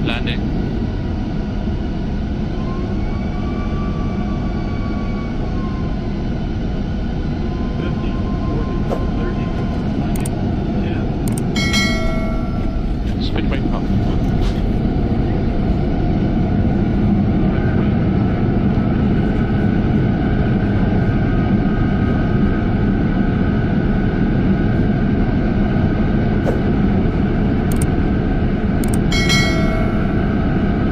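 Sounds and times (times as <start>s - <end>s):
jet engines low rumble: 0.0s - 30.9s
thin engine whine: 0.0s - 30.9s.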